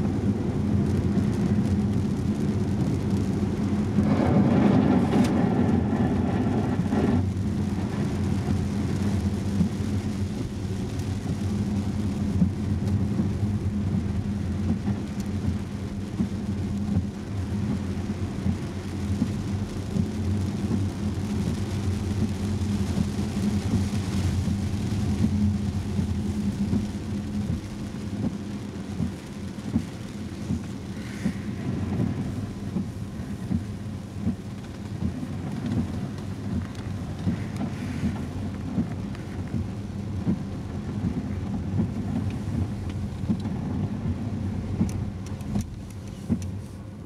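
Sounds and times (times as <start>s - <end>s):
rain on car: 0.0s - 47.0s
tyres rumbling on wet road: 0.0s - 47.0s.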